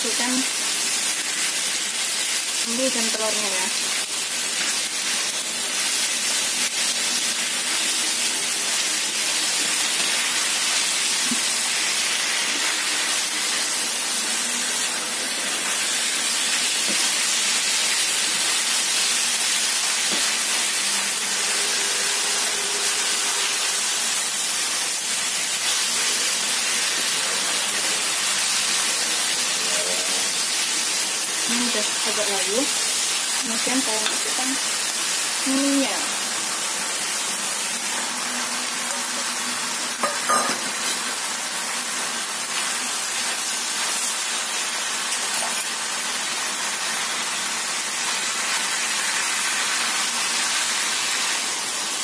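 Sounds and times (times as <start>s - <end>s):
vegetables sizzling in a wok: 0.0s - 52.0s.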